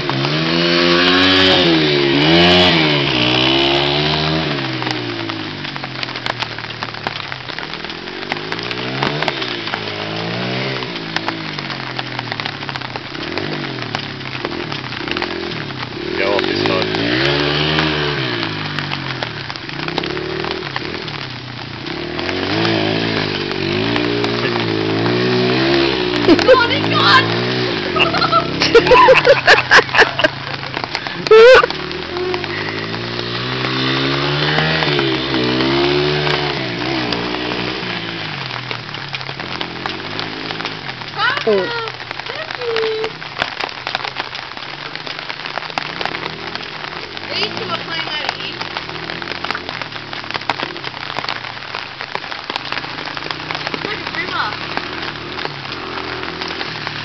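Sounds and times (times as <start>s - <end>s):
heavy rain hissing: 0.0s - 57.0s
trail bike engine revving: 0.0s - 57.0s.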